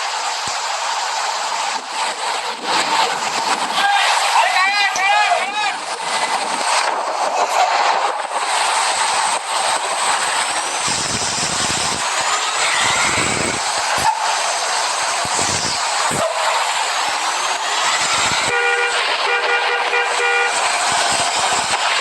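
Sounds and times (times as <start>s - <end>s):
passing traffic: 0.0s - 22.0s.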